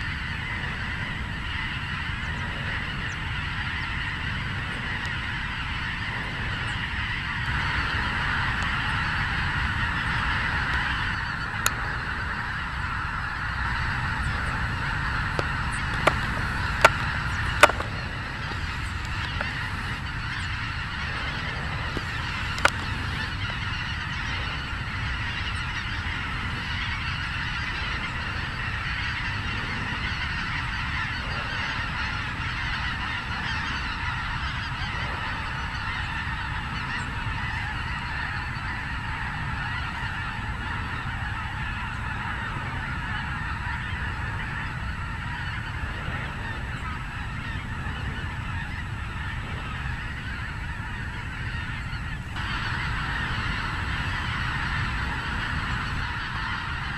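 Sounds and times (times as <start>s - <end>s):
geese honking in flight: 0.0s - 56.9s.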